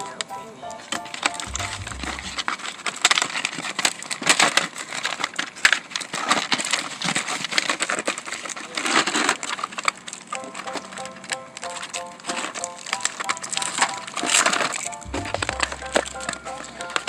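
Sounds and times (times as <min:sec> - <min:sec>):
packaging crinkling: 0:00.7 - 0:17.0
plastic clicks: 0:00.8 - 0:17.0.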